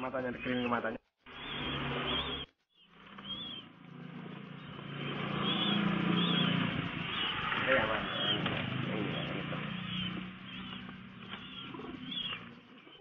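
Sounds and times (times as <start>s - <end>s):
small birds chirping: 0.0s - 13.0s
low engine drone: 1.3s - 13.0s.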